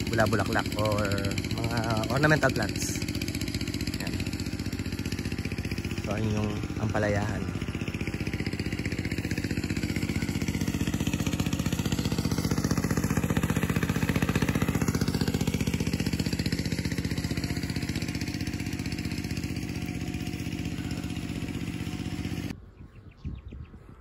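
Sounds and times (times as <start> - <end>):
small engine running: 0.0 - 22.6.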